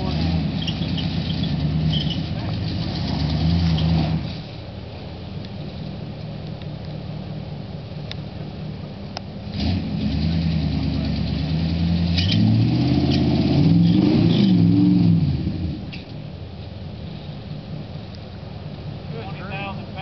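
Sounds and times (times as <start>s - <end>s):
suv engine revving: 0.0s - 20.0s.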